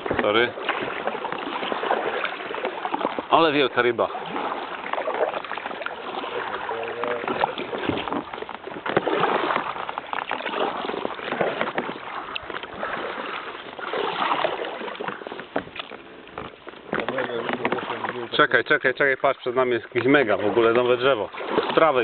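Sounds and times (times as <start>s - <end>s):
paddles splashing in water: 0.0s - 22.0s.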